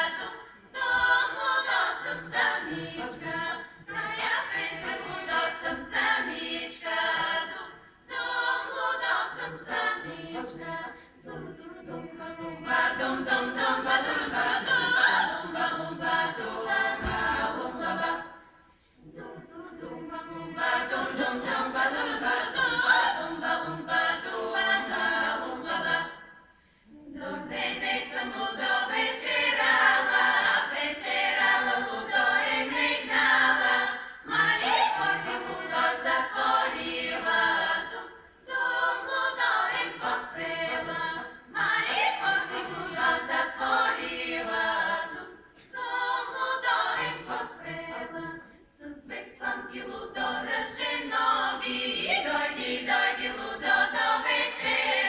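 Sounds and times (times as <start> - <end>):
women's choir singing a cappella: 0.0 - 55.0.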